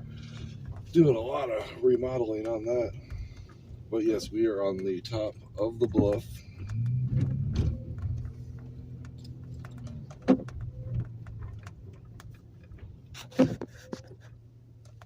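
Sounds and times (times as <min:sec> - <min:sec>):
vehicle humming: 0:00.0 - 0:15.0.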